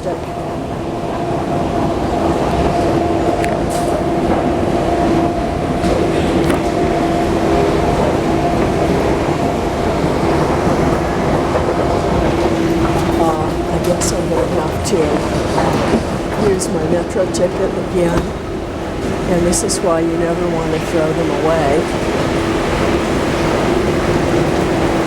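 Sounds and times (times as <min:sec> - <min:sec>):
metro train rumbling: 0:00.0 - 0:25.0.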